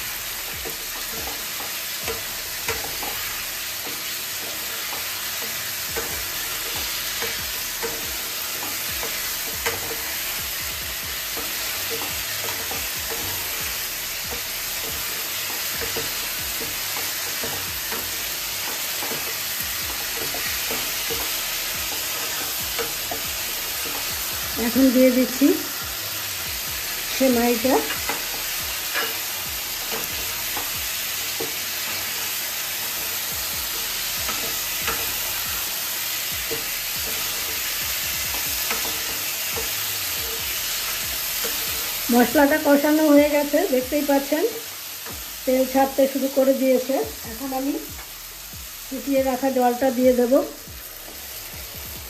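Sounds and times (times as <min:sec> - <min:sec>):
spatula scraping a pan: 0:00.0 - 0:45.4
vegetables sizzling in a pan: 0:00.0 - 0:52.0.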